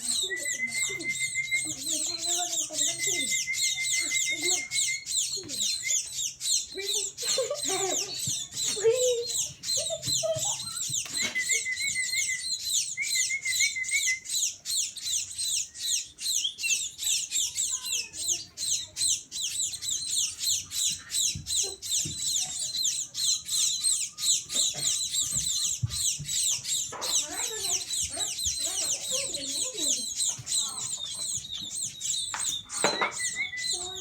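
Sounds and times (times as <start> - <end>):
birds chirping: 0.0 - 34.0
warbling bird trills: 0.0 - 34.0.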